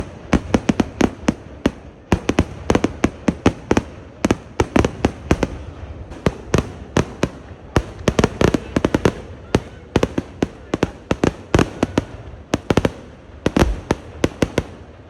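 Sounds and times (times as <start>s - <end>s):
firecracker bangs: 0.0s - 14.9s.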